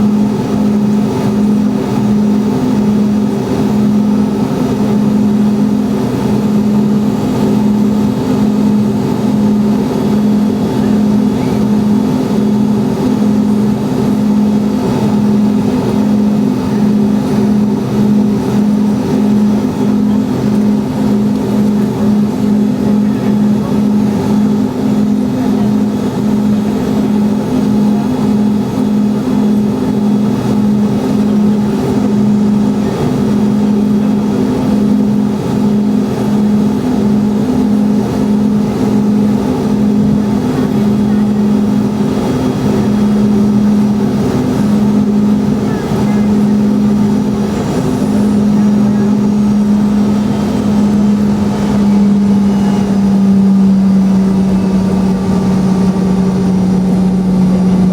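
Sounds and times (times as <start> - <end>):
jet engines idling drone: 0.0 - 57.9.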